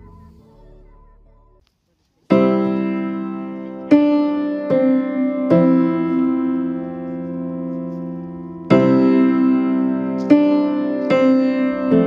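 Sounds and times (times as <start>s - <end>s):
slow piano chords: 2.3s - 12.0s.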